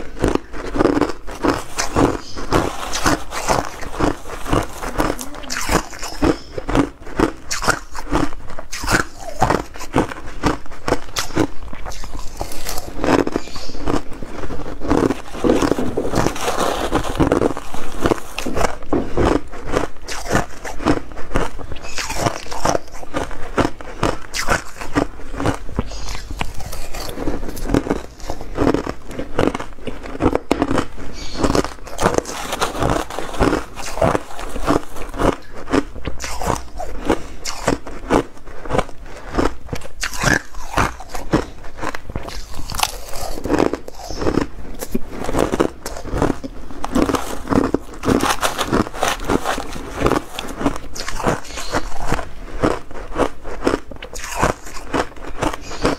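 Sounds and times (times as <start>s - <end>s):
crushed ice being chewed: 0.0s - 55.9s.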